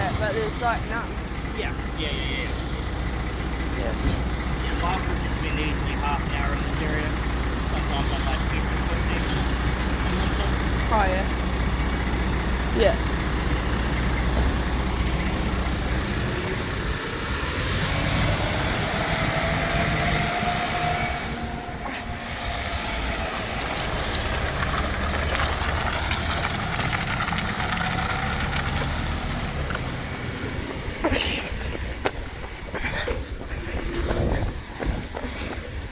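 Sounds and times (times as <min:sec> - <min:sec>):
truck diesel engine running: 0:00.0 - 0:35.9.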